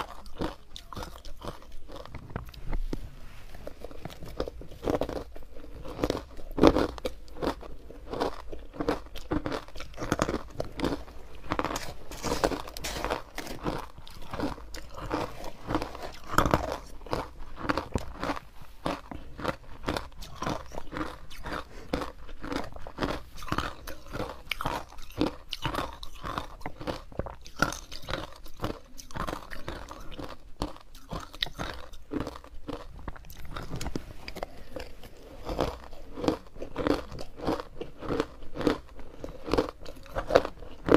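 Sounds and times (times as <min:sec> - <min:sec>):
ice crunching and chewing: 0:00.0 - 0:03.0, 0:03.6 - 0:40.9.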